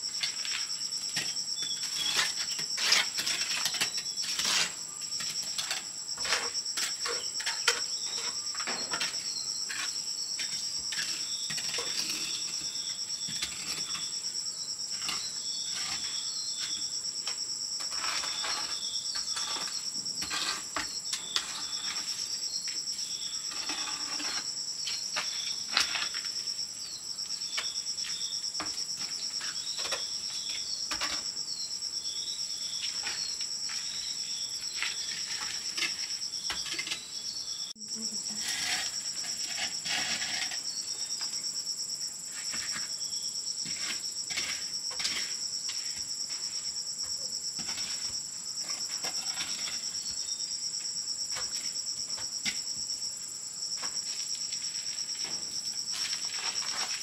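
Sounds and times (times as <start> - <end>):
high-pitched insect chorus: 0.0 - 57.0
lower pulsing insect call: 0.0 - 57.0.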